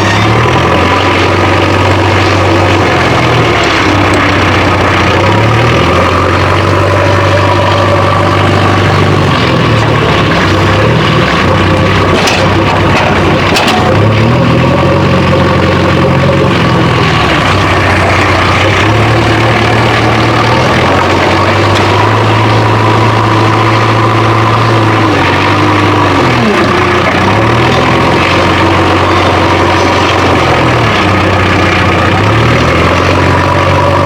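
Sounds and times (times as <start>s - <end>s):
heavy engine idling: 0.0s - 34.0s.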